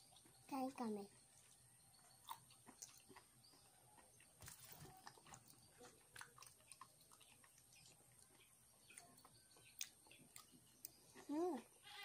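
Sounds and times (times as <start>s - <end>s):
chewing clicks and mouth sounds: 1.1s - 11.7s.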